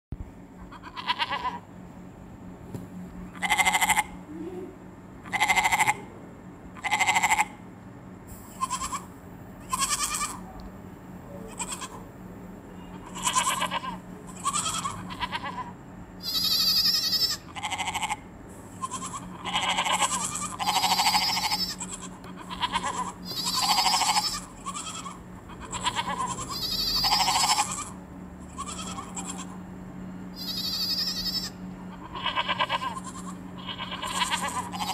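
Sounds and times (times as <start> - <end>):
steady low hum: 0.1 - 34.9
young goats bleating: 0.6 - 1.7, 3.3 - 6.1, 6.8 - 7.6, 8.4 - 10.4, 11.4 - 12.1, 12.8 - 29.6, 30.3 - 34.9.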